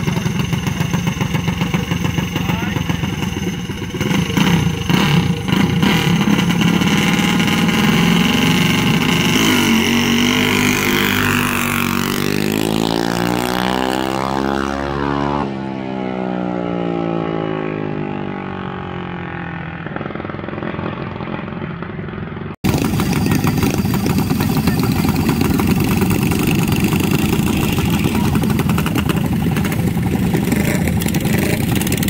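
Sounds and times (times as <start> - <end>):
mini bike engine revving: 0.0 - 32.0.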